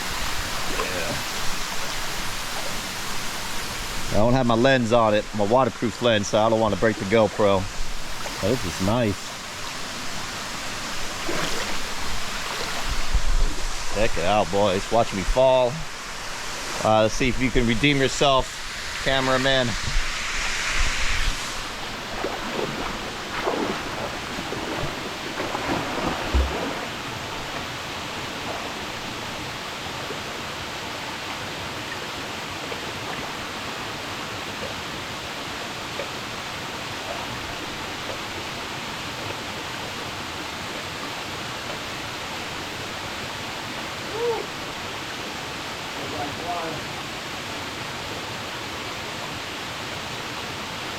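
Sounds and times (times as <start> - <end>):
waterfall rushing: 0.0 - 39.2, 39.8 - 50.9.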